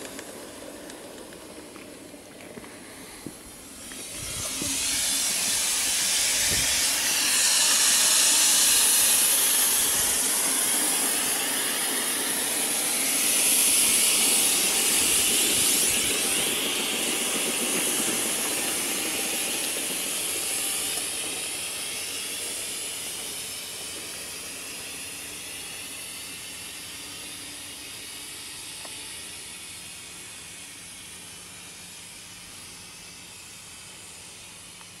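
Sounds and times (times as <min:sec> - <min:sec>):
model steam locomotive hissing: 0:00.0 - 0:35.0.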